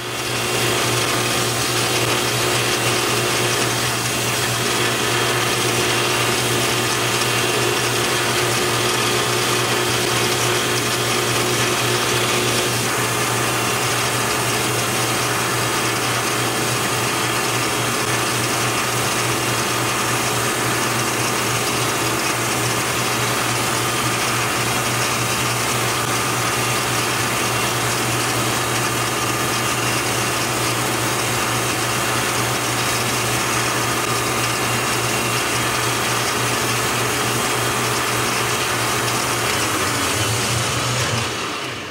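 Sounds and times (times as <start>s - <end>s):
tool bit cutting brass: 0.0s - 41.7s
metal lathe running: 0.0s - 41.9s.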